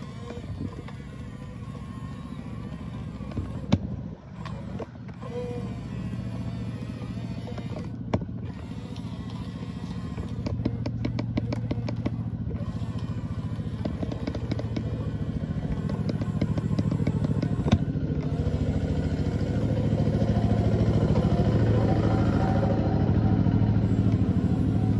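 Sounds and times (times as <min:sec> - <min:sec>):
motor hum: 0:00.0 - 0:24.9
rapid clicking and clatter: 0:00.0 - 0:24.9.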